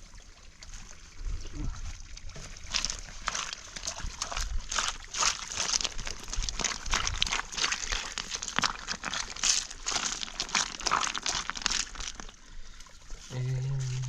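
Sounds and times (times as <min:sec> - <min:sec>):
rustling and crunching: 0:00.7 - 0:14.0.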